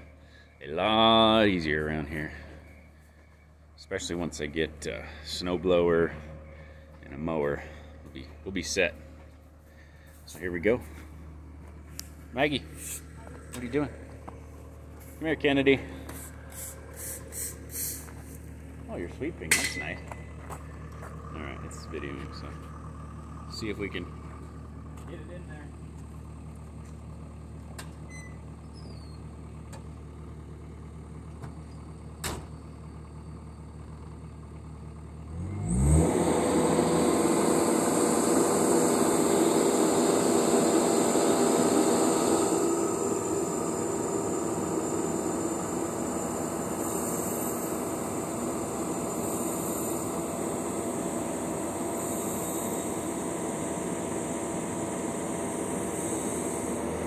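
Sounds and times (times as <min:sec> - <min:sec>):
skid steer engine revving: 0:00.0 - 0:57.0.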